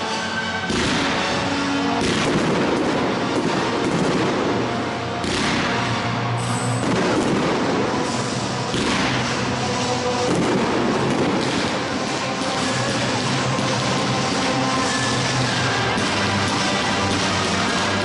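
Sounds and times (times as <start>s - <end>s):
music on loudspeakers: 0.0s - 18.0s
firework shells bursting: 0.7s - 17.8s.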